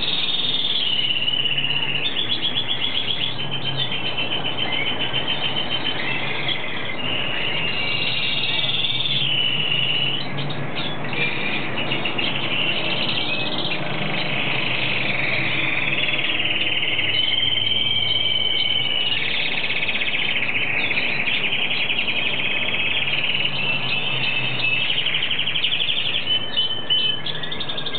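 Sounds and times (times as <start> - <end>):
bird singing twittering warble: 0.0 - 27.9.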